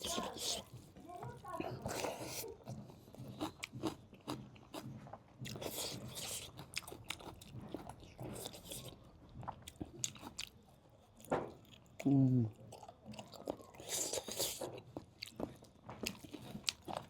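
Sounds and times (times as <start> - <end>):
person chewing crunchy food: 0.0 - 0.9, 1.7 - 17.0.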